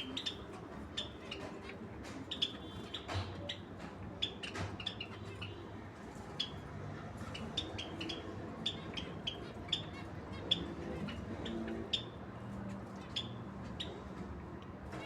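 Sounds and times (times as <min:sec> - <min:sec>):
lovebirds chirping: 0:00.0 - 0:14.0.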